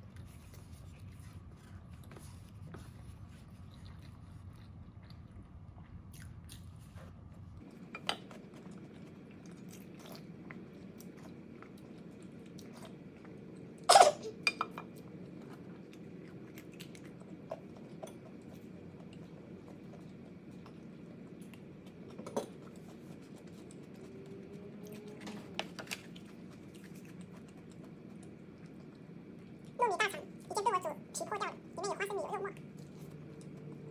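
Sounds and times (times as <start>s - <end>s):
chewing food: 0.0s - 33.9s.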